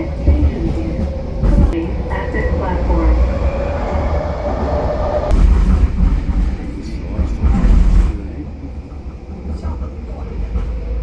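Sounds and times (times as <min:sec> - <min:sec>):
train car rumbling: 0:00.0 - 0:11.0.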